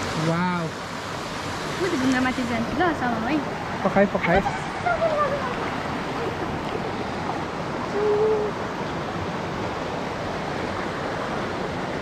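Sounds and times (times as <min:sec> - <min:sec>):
water rushing in rocky stream: 0:00.0 - 0:12.0.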